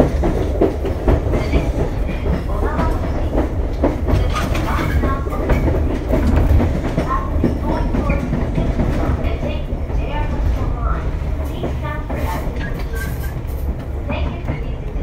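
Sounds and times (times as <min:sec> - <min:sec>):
train rumble inside carriage: 0:00.0 - 0:15.0
wheels clicking over rail joints: 0:00.0 - 0:15.0.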